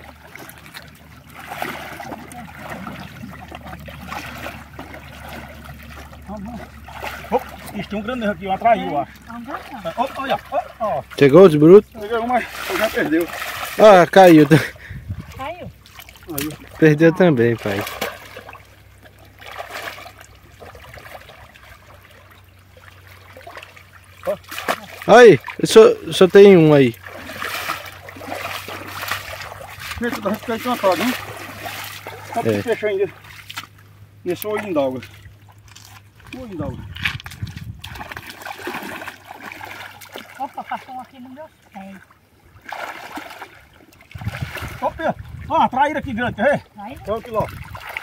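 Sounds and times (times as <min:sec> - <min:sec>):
pond water sloshing and splashing: 0:00.0 - 0:48.0.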